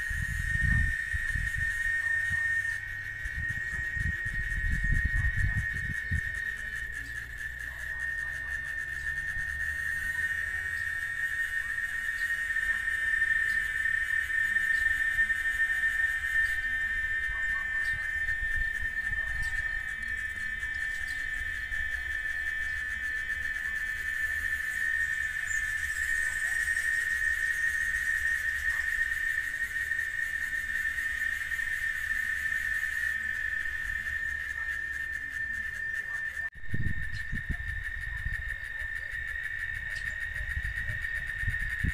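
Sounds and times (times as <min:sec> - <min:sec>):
cicada drone: 0:00.0 - 0:41.9.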